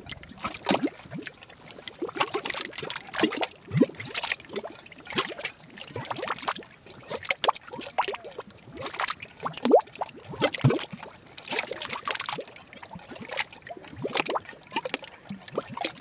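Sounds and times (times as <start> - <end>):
mud bubbling and plopping: 0.0 - 16.0.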